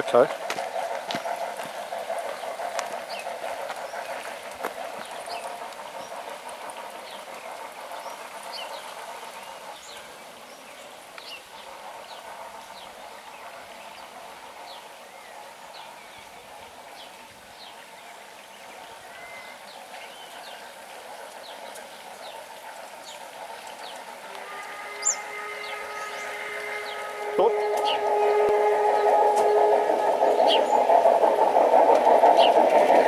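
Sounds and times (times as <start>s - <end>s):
small birds chirping: 0.0s - 28.1s.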